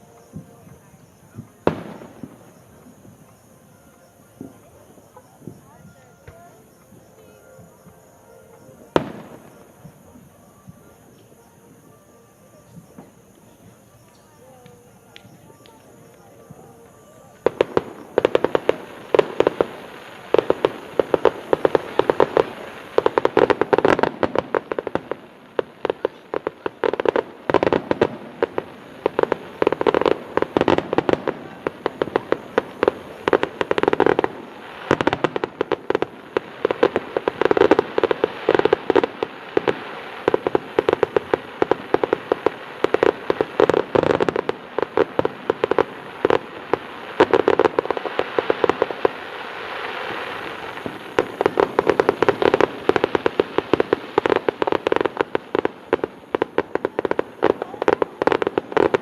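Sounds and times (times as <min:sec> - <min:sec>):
fireworks bangs: 0:00.0 - 0:03.6, 0:04.2 - 0:11.5, 0:12.5 - 0:59.0.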